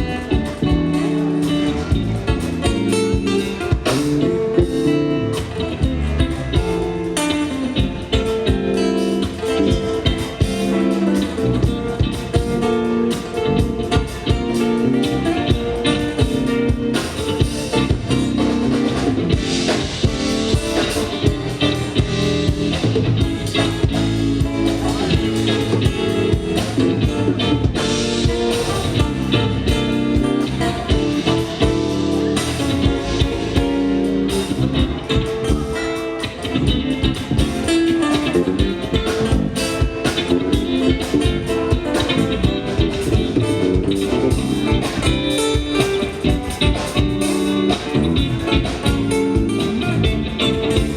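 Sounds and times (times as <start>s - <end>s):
drum beat: 0.0s - 50.9s
guitar: 0.0s - 50.9s.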